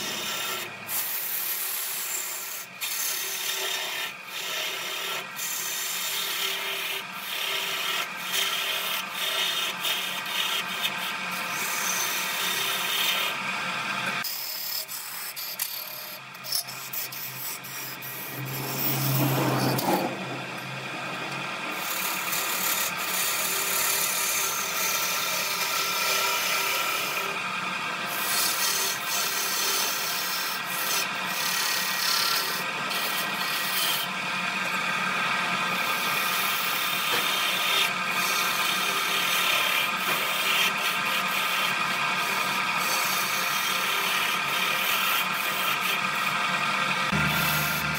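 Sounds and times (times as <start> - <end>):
lathe motor humming: 0.0 - 47.9
tool scraping spinning wood: 0.0 - 47.9.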